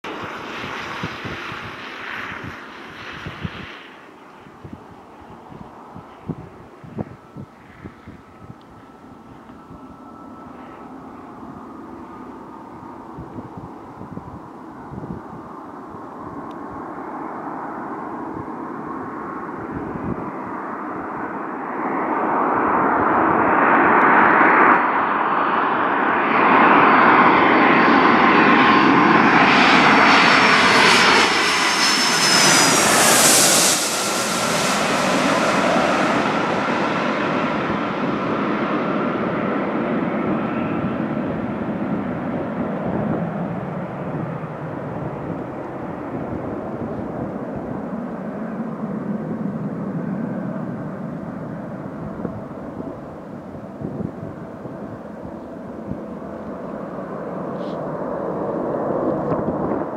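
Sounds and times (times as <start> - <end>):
jet plane passing overhead: 0.0 - 59.9.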